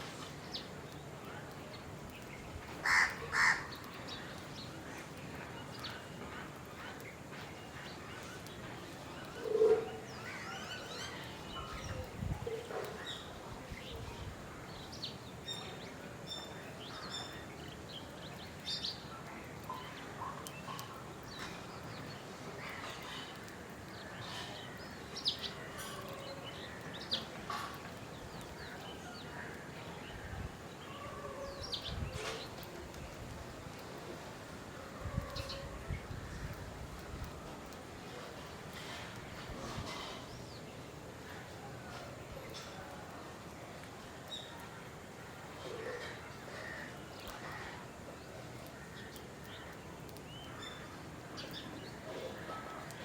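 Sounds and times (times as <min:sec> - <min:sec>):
birds chirping: 0:00.0 - 0:53.0
steady background hiss: 0:00.0 - 0:53.0.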